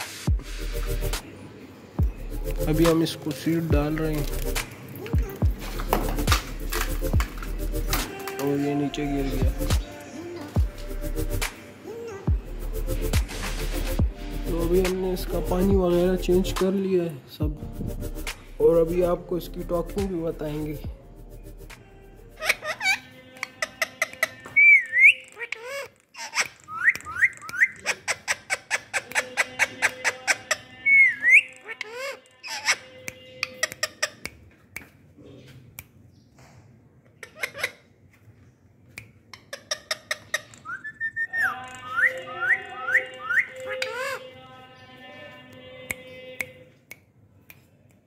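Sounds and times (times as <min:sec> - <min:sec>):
parakeets calling: 0:00.0 - 0:16.9, 0:17.5 - 0:34.3, 0:39.3 - 0:45.3.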